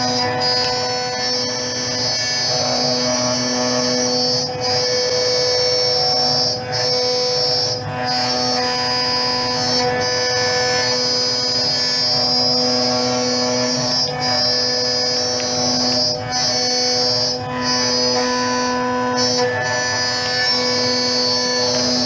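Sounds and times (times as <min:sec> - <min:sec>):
end mill cutting aluminium: 0:00.0 - 0:22.0
router spindle high whine: 0:00.0 - 0:22.0.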